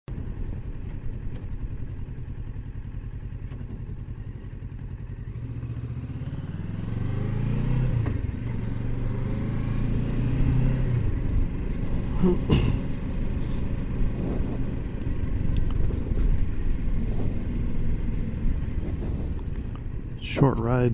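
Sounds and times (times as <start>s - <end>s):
motorcycle engine revving: 0.2s - 20.9s.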